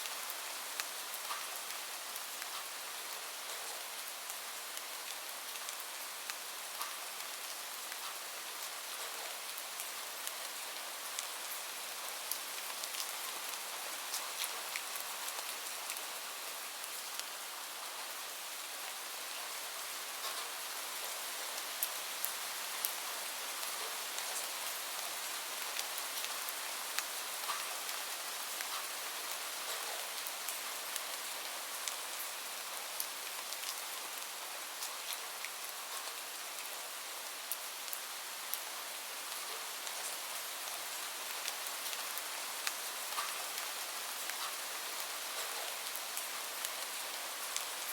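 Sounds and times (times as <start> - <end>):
gentle rain falling: 0.0 - 47.9.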